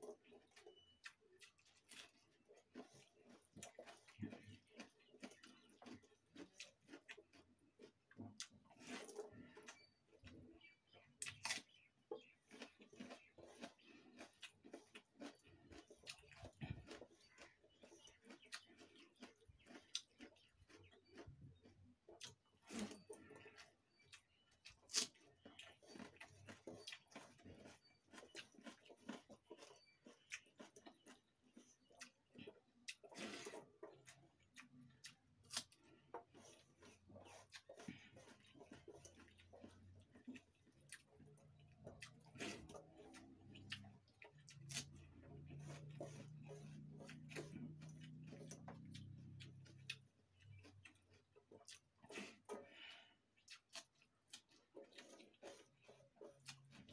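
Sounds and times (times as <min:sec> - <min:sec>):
chewing rice: 0:00.0 - 0:56.9
fingers squishing rice on a plate: 0:00.0 - 0:56.9.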